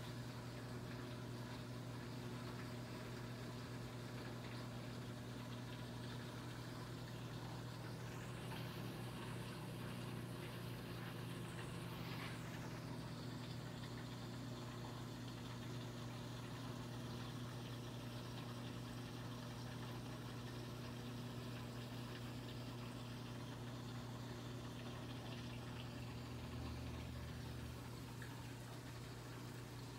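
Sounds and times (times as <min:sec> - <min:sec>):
aquarium pumps humming: 0:00.0 - 0:29.9
circulating water: 0:00.0 - 0:29.9.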